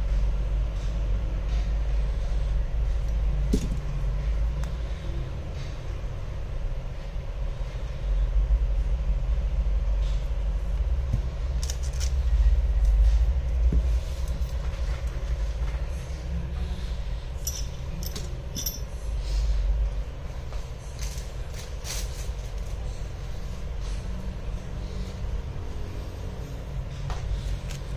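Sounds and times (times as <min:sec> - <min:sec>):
steady low rumble: 0:00.0 - 0:27.9.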